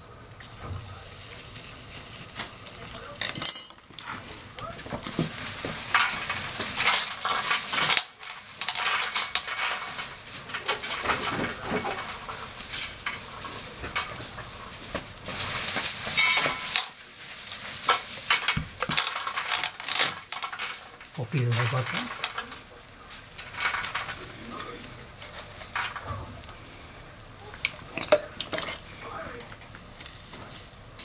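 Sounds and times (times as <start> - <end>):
patty sizzling on a grill: 0.0 - 31.0
wood fire crackling: 0.0 - 31.0.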